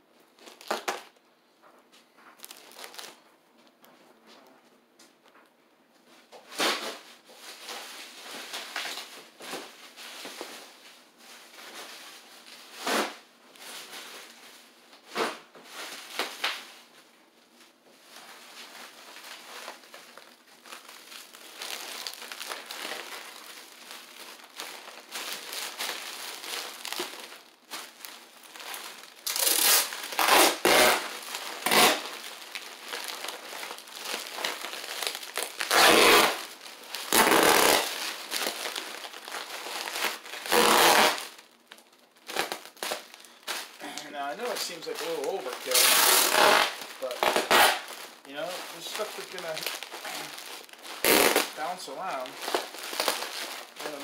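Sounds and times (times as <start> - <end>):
bubble wrap crinkling: 0.2 - 1.2, 2.2 - 3.3, 6.4 - 54.0.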